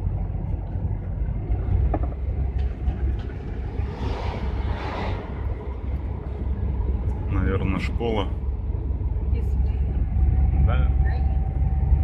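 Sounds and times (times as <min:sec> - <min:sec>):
van engine and tyre rumble: 0:00.0 - 0:12.0.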